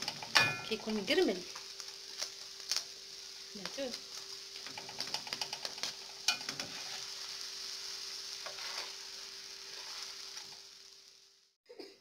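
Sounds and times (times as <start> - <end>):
flatbread sizzling in a pan: 0.0 - 11.6.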